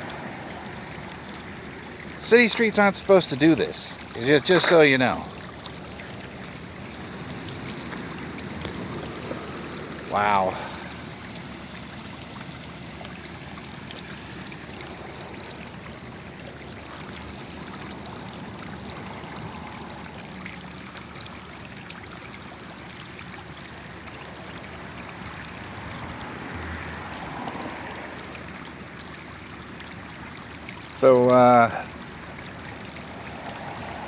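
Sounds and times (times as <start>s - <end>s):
water gushing and flowing: 0.0s - 34.0s.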